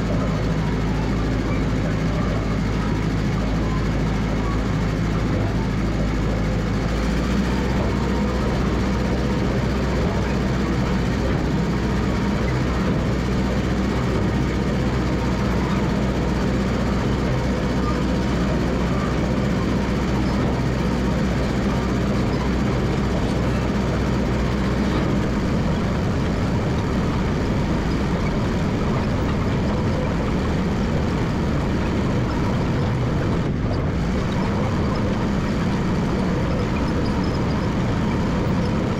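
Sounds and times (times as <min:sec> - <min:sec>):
dozer engine running under load: 0:00.0 - 0:38.9.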